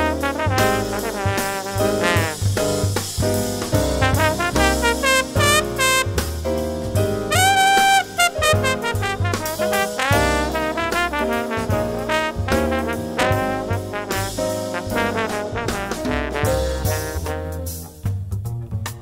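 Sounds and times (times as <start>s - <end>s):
jazz music with brass horns: 0.0s - 19.0s.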